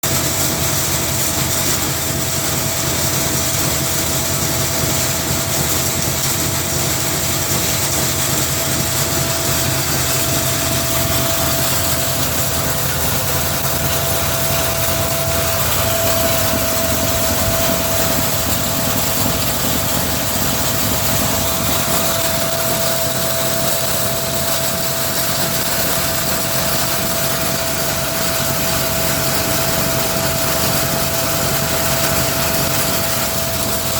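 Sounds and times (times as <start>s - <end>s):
feed grinder motor rumble and whine: 0.1s - 33.9s.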